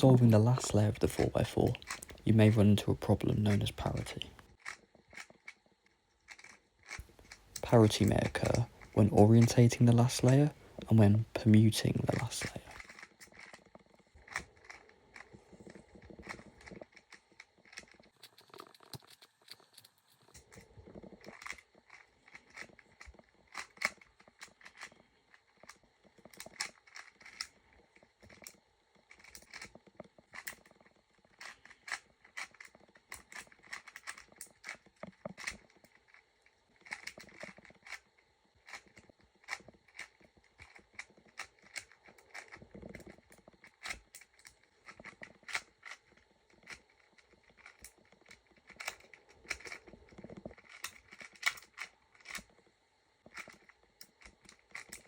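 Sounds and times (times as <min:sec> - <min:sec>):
puzzle cube clicking and scraping: 0:00.0 - 0:52.6, 0:53.2 - 0:55.0.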